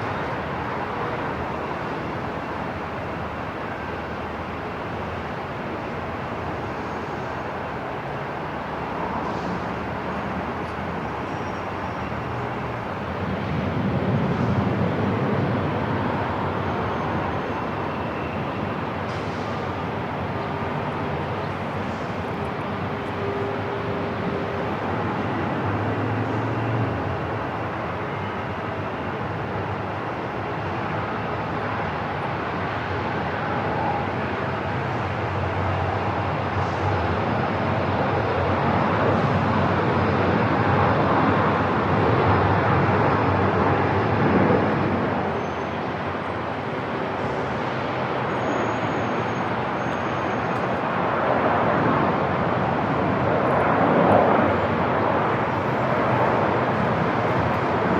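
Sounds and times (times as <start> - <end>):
steady wash of noise: 0.0 - 48.9.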